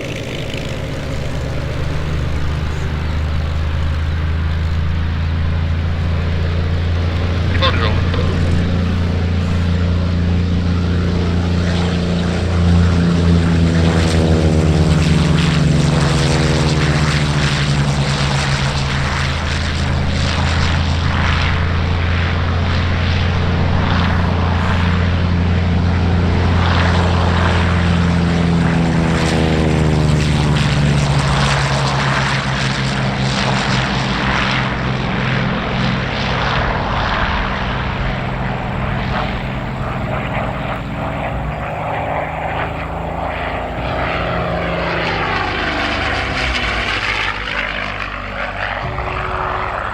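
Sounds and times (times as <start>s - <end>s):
propeller plane engine drone: 0.0s - 49.9s.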